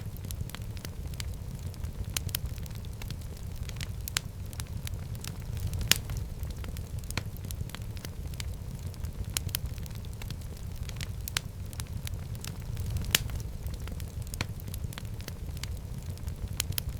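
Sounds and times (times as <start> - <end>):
fire crackling and popping: 0.0 - 16.9
flames rumbling in fireplace: 0.0 - 16.9.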